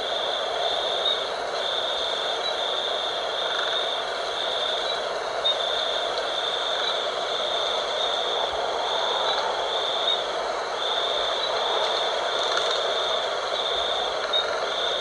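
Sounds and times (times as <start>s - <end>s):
night wind blowing: 0.0s - 15.0s.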